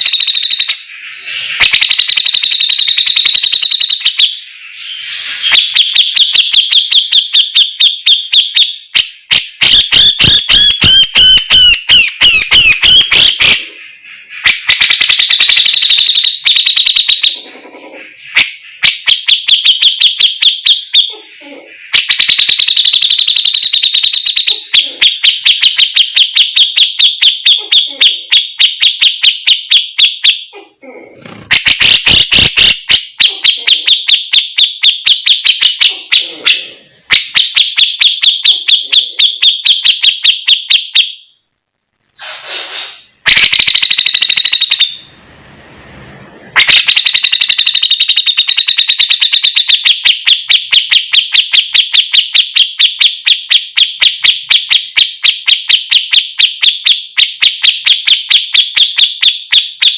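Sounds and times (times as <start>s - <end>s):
bulbul calling high repeated notes: 0.0s - 17.4s, 18.2s - 30.5s, 31.5s - 41.3s, 43.2s - 45.0s, 46.6s - 59.9s.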